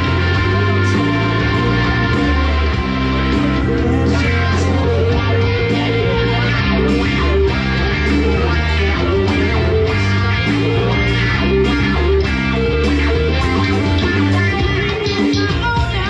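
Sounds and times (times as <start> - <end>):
bass guitar line: 0.0 - 16.0
electric guitar: 0.0 - 16.0.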